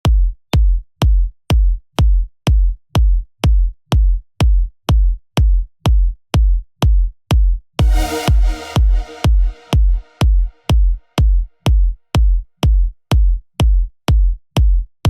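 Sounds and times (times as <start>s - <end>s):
drum machine kick drum: 0.0s - 15.0s.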